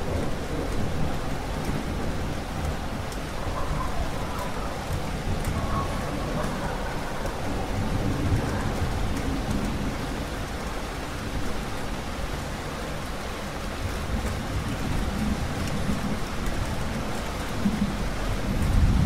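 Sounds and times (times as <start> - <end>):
low rumble of thunder: 0.0 - 19.0
steady rain falling: 0.0 - 19.0.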